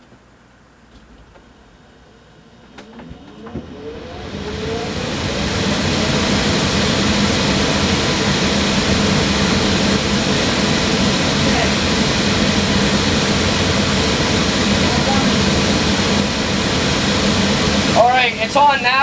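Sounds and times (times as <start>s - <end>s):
blower fan motor whine and airflow: 0.0s - 19.0s.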